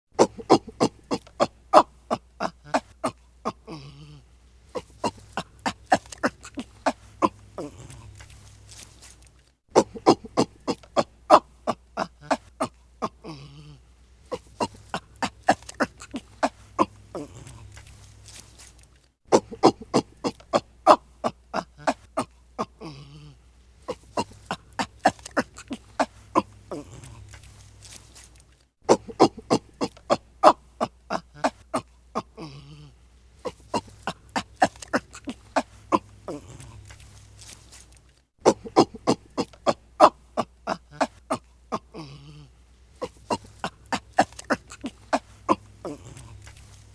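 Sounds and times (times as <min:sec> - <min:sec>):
ape grunting and breathing: 0:00.2 - 0:08.3, 0:09.7 - 0:17.8, 0:19.3 - 0:27.3, 0:28.9 - 0:36.9, 0:38.4 - 0:46.7.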